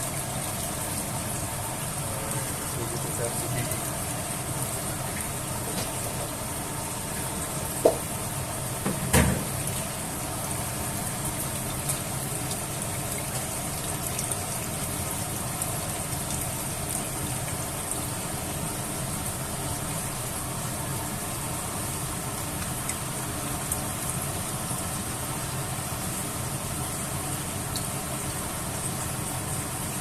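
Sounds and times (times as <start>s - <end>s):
stove rushing noise: 0.0s - 27.3s.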